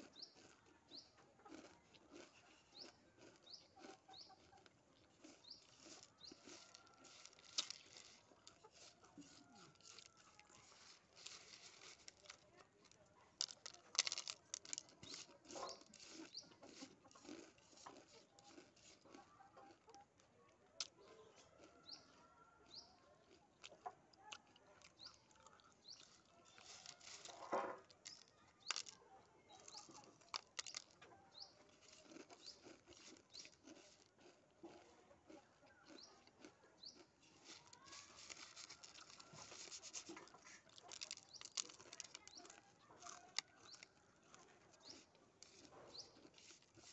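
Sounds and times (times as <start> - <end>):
fingers raking through chips: 0.0 - 20.0, 20.8 - 46.9
potato chips crunching: 0.0 - 46.9.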